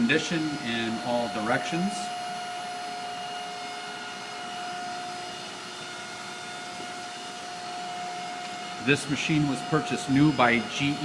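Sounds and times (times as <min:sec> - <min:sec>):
grinding machine idling with whine: 0:00.0 - 0:11.0.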